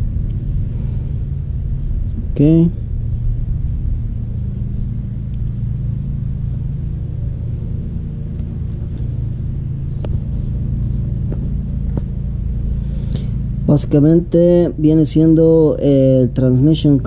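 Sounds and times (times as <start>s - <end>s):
motor humming: 0.0s - 15.7s.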